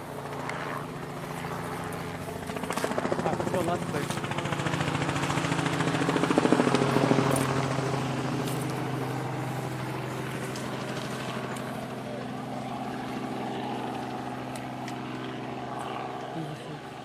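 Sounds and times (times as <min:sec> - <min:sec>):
engine pulsing drone: 0:00.0 - 0:17.0.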